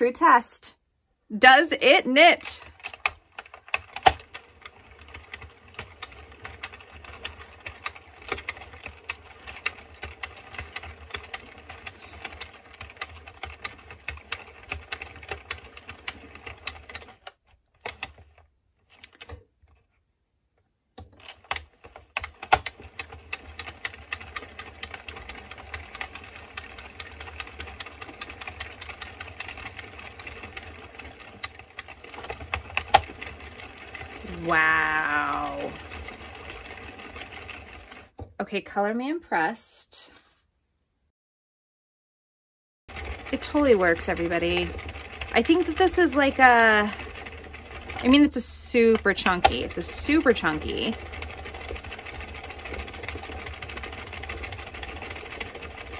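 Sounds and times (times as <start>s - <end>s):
knitting machine needles clicking: 1.4s - 20.0s, 21.0s - 38.3s, 42.9s - 55.9s.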